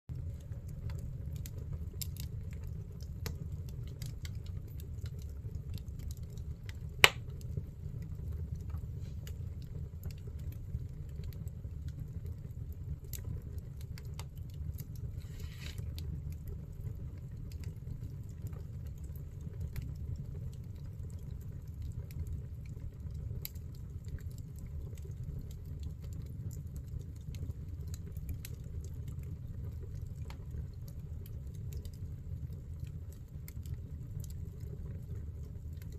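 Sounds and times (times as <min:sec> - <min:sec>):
fire crackling: 0:00.1 - 0:35.9
fire rumbling: 0:00.1 - 0:35.9.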